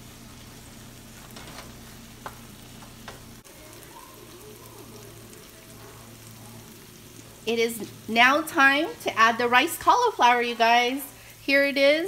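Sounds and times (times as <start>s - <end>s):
sauce sizzling in a skillet: 0.0s - 12.0s.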